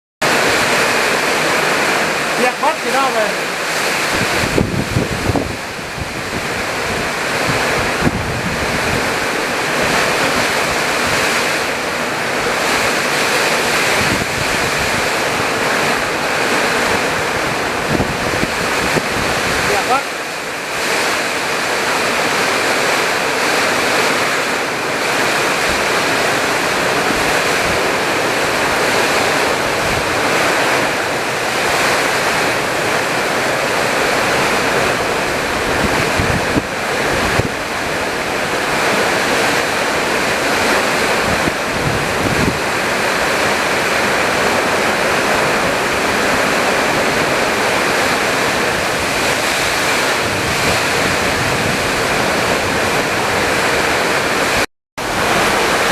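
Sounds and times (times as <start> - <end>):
heavy rain: 0.2 - 55.9
strong wind: 0.2 - 55.9
wind buffeting microphone: 0.2 - 55.9.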